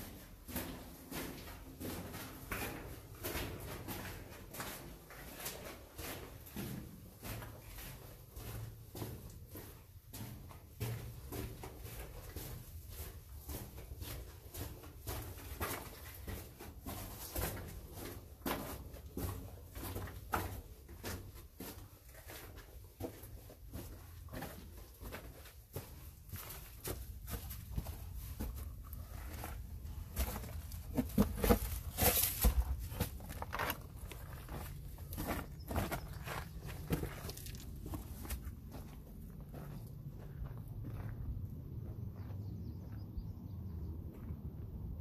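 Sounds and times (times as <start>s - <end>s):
footsteps on wet rocky floor: 0.0s - 43.0s.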